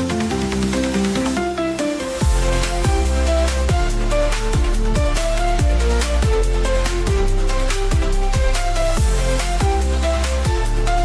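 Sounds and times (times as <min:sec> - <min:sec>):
electronic synth music: 0:00.0 - 0:11.0.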